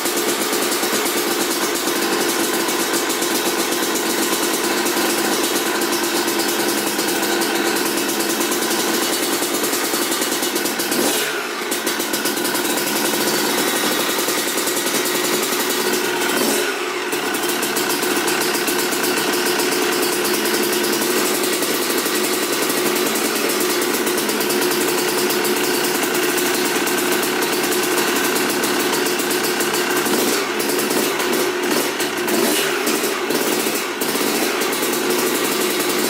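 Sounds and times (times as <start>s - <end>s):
motocross engine running: 0.0s - 36.0s.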